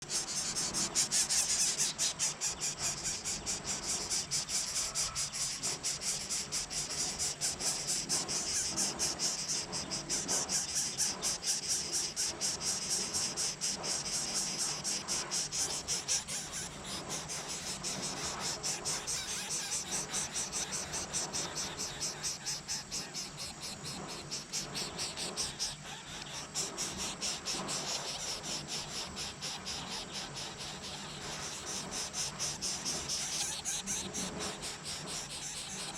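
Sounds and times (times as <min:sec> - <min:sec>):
insects chirping: 0:00.0 - 0:35.9.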